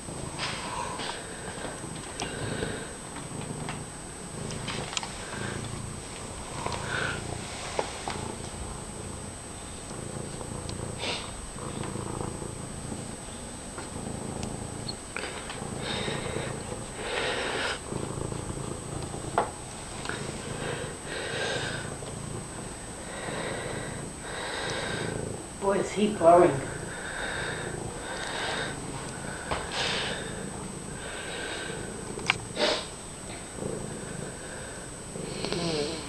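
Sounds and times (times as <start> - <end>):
cat purring loudly: 0.0 - 36.0.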